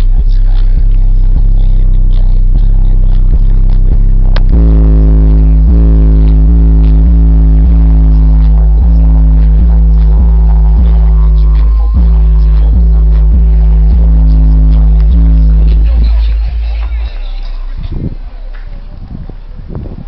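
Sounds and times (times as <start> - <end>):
bass-heavy music with beat: 0.0 - 20.0.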